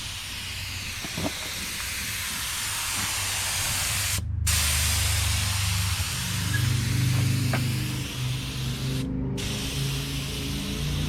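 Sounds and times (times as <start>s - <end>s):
spray gun hissing: 0.0s - 11.0s.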